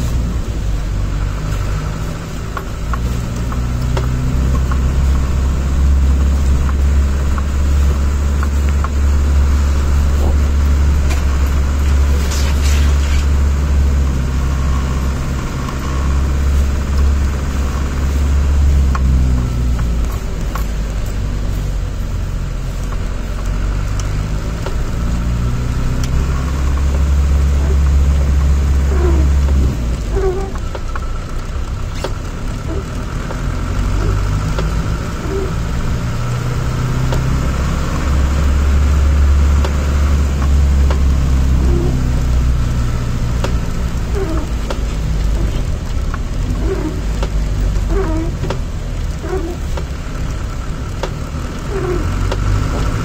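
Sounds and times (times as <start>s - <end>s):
low engine drone from inside cab: 0.0s - 53.0s.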